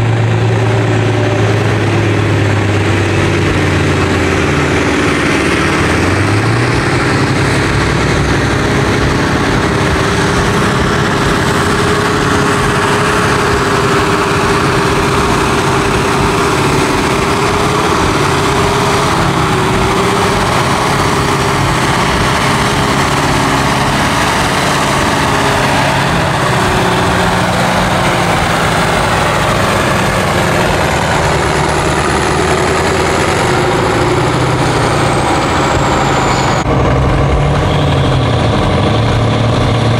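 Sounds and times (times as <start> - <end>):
diesel tractor engine at high revs: 0.0 - 39.9.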